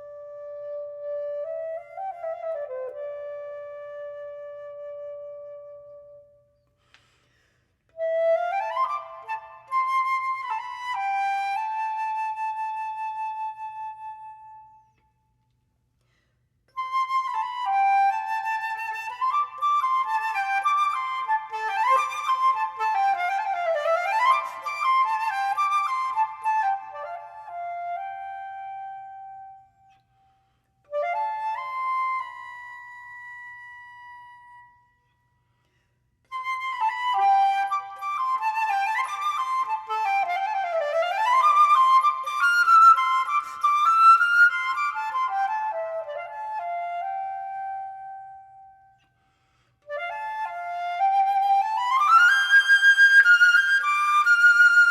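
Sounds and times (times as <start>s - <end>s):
solo flute melody: 0.0s - 6.6s, 7.8s - 15.6s, 16.7s - 35.3s, 36.2s - 54.9s.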